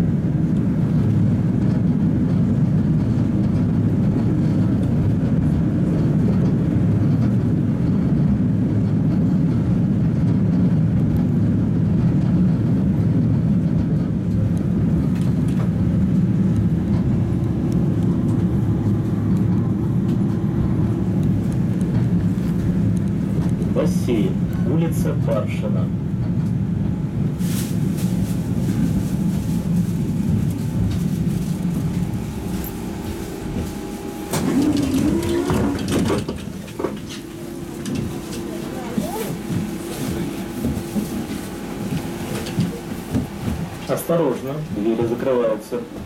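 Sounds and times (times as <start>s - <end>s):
tram rumbling in motion: 0.0s - 46.0s.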